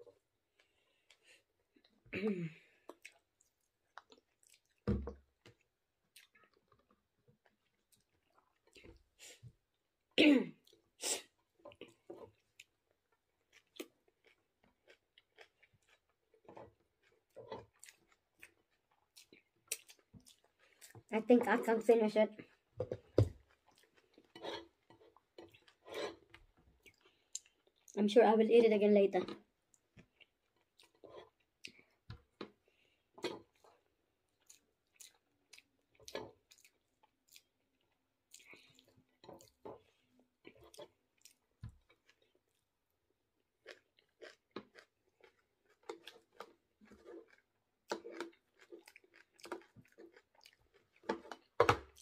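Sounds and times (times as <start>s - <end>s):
chewing food: 2.6s - 28.0s, 29.1s - 52.0s.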